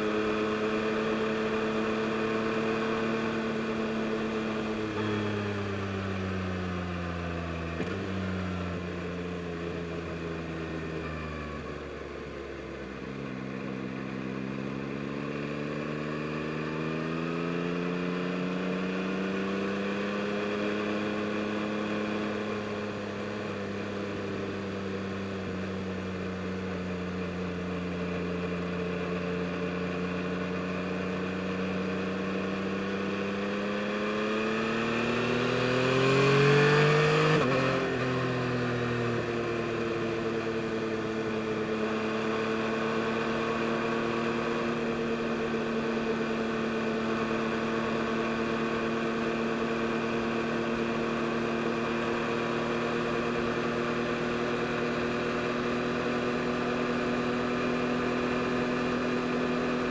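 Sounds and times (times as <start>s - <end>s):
motorcycle engine revving: 0.0s - 11.8s, 12.4s - 59.9s.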